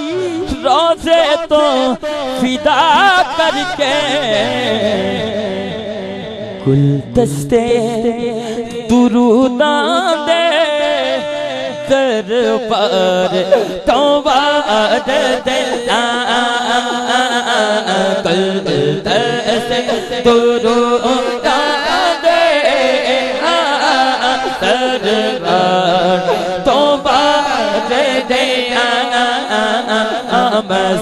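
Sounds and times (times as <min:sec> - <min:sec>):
man singing melismatic lines: 0:00.0 - 0:31.0.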